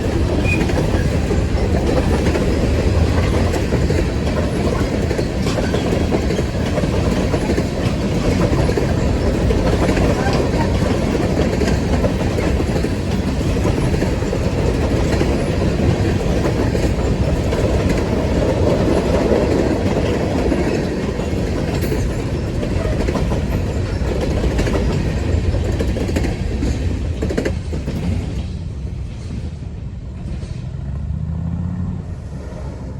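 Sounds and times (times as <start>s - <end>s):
wheels clicking over rail joints: 0.0s - 29.6s
freight train rumbling: 0.0s - 32.9s.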